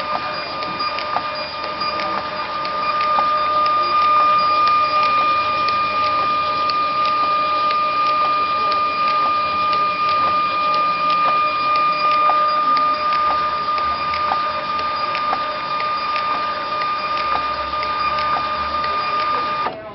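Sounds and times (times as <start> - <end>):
label printer motor whine: 0.0 - 19.9
light printer clicks: 0.0 - 19.9.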